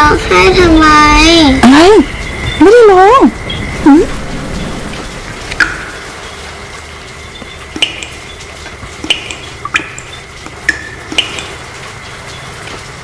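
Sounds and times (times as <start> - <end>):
rain hissing: 0.0 - 13.0
water drops plinking: 1.6 - 13.0.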